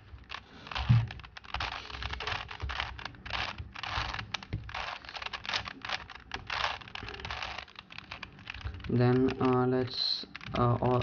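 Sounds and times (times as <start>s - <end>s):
puzzle cube clicking and scraping: 0.0s - 11.0s.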